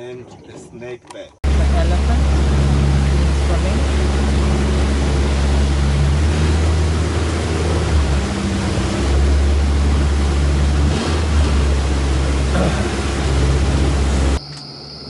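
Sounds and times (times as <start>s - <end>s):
boat motor humming: 0.0s - 15.0s
water noise: 0.0s - 15.0s
rushing wind: 1.4s - 14.4s.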